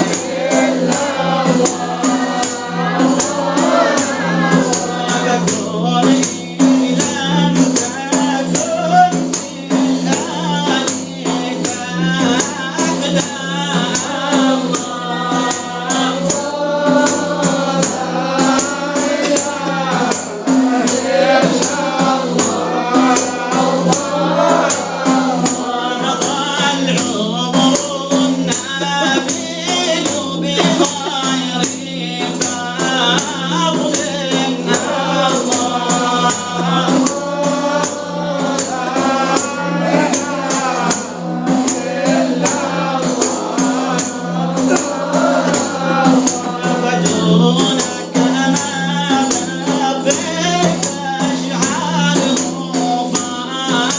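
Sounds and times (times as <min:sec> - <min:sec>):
frame drum beat: 0:00.0 - 0:53.9
voices singing in unison: 0:00.0 - 0:53.9.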